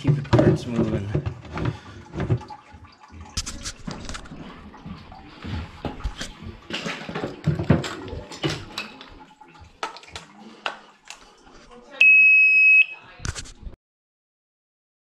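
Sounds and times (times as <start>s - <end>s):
water sloshing and dripping: 0.0s - 12.8s.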